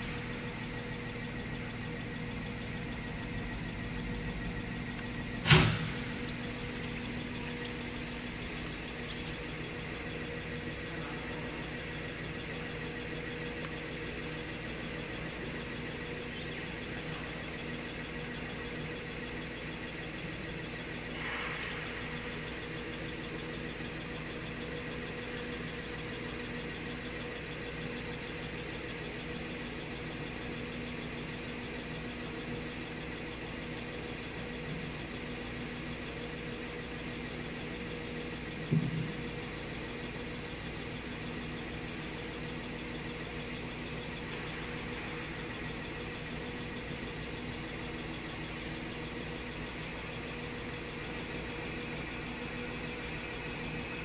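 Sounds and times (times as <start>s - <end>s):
machine humming with high whine: 0.0s - 54.0s.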